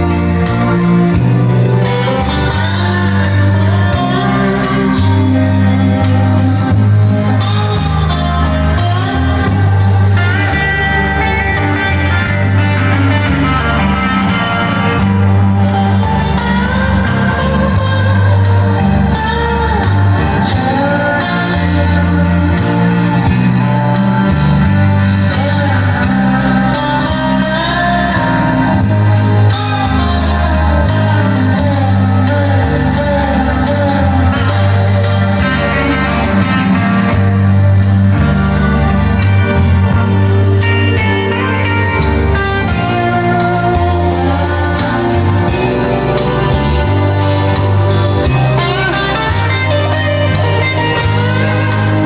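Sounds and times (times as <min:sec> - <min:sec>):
bass line: 0:00.0 - 0:52.0
guitar: 0:00.0 - 0:52.0
person singing: 0:00.0 - 0:52.0.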